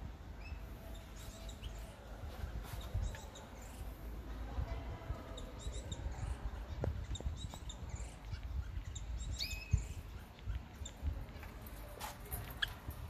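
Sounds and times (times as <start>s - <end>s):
sparrow chirping: 0.0s - 13.0s.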